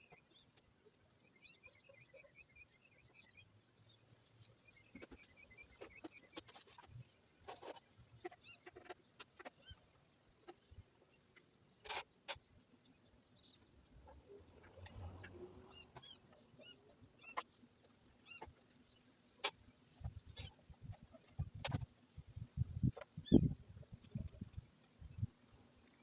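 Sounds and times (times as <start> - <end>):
faint bird chirping: 0.0 - 26.0.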